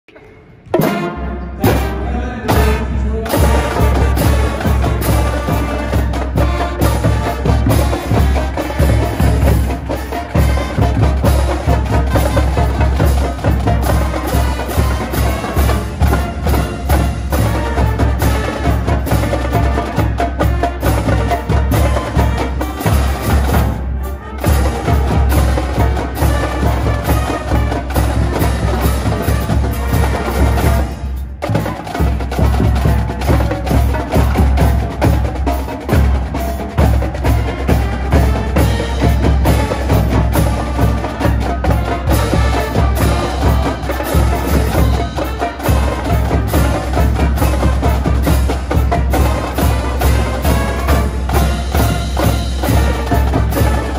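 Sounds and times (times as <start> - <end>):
drumline drums and cymbals: 0.1 - 53.9
flutes and brass: 0.1 - 53.9
pep band playing: 0.1 - 53.9.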